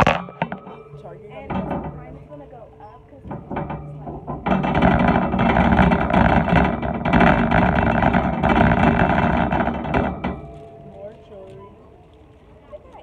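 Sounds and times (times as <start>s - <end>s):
shopping cart rattling: 0.0s - 13.0s.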